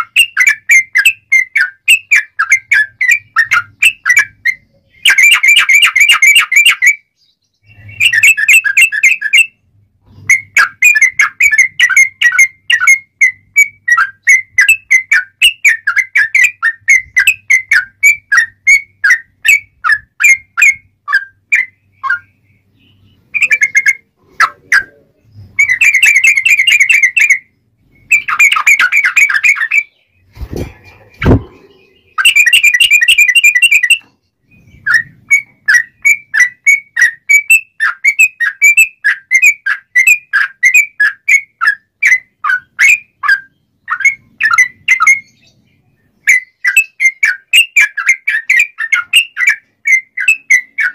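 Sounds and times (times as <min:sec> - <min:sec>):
bird singing: 0:00.0 - 0:50.9.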